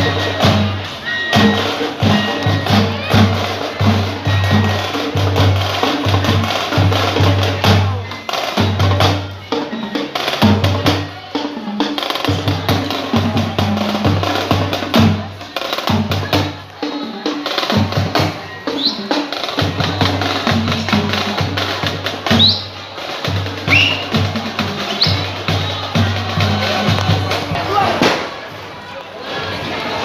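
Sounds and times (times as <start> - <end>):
fast carnival drumming: 0.0 - 28.7.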